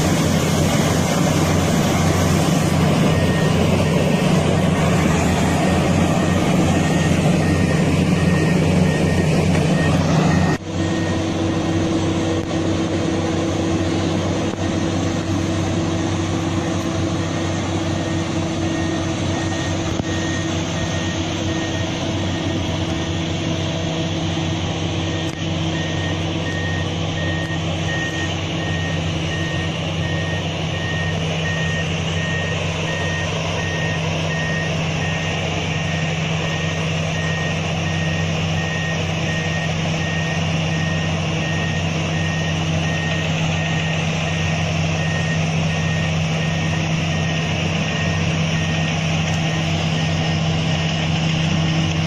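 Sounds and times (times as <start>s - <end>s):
heavy diesel engine running: 0.0s - 52.0s
reversing alarm beeping: 0.0s - 52.0s.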